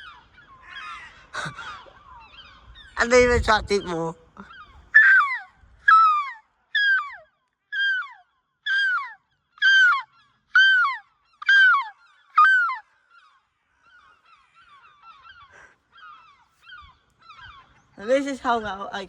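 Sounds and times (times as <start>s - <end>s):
seagulls calling: 0.0s - 19.0s.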